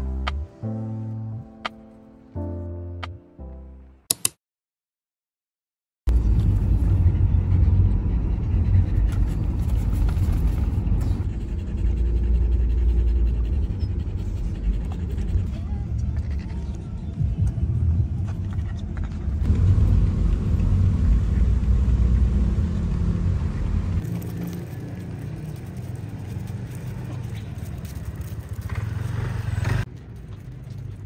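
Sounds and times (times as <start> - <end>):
car cabin road rumble: 6.1 - 31.0.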